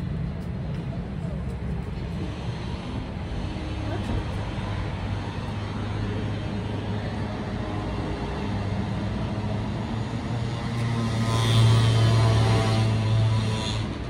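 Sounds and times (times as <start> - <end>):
vehicle drone: 0.0 - 14.0.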